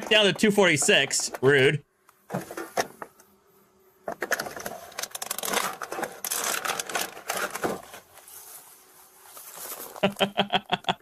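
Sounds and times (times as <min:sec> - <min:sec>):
rustling and scraping of items: 0:00.0 - 0:03.4, 0:04.0 - 0:10.2.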